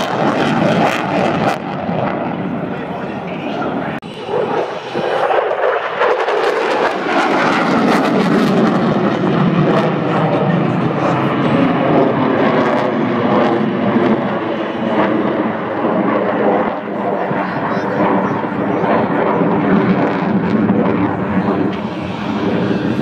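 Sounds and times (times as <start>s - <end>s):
aircraft engine noise: 0.0s - 23.0s
falling engine whine: 0.0s - 23.0s.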